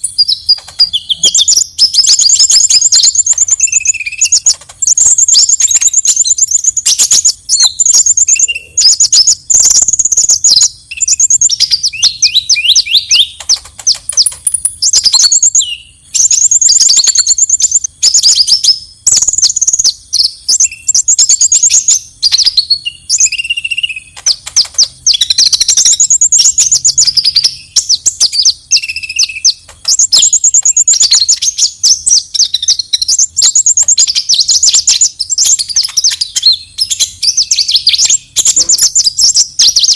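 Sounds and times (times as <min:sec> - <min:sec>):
sunbird chattering trills: 0:00.0 - 0:39.9.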